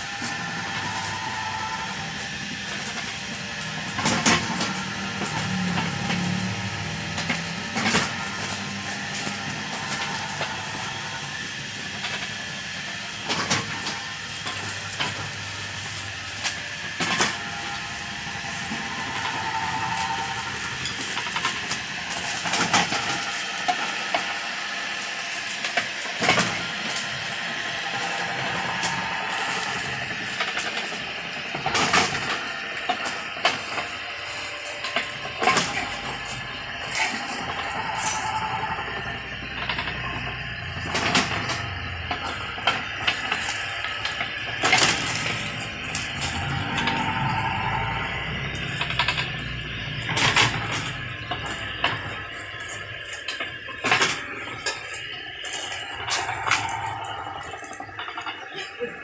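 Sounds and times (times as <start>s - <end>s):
mechanical hum with hiss: 0.0s - 59.0s.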